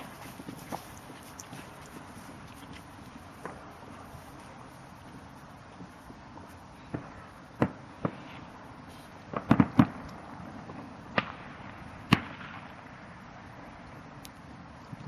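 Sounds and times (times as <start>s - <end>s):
fireworks exploding: 0.0s - 13.1s.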